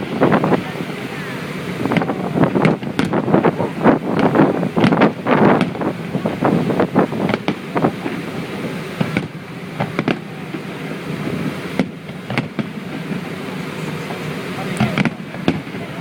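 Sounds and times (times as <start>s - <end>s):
fireworks bangs and crackles: 0.0s - 16.0s
steady background rush: 0.0s - 16.0s.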